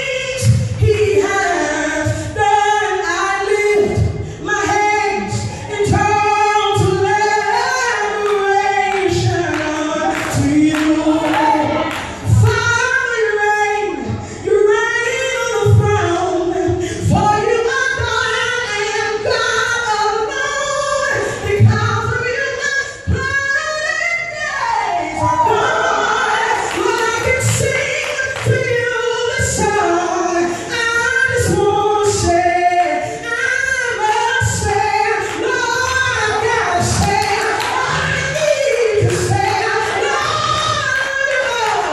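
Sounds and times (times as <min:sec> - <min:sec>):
woman singing gospel song: 0:00.0 - 0:41.9.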